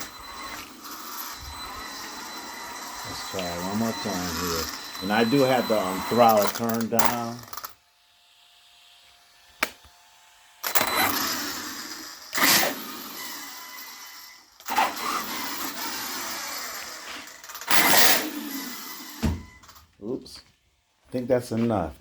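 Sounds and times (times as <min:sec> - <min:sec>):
toy truck motor revving: 0:00.0 - 0:19.8.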